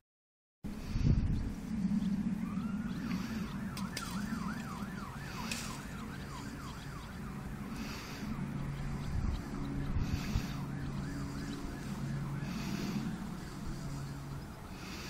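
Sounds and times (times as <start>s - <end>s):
steady low rumble: 0.7s - 15.0s
emergency siren yelping: 1.5s - 15.0s.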